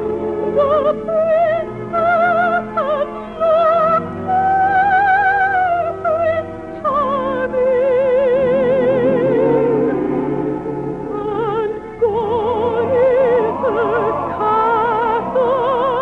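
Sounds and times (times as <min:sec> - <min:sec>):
orchestra playing slow melody: 0:00.0 - 0:16.0.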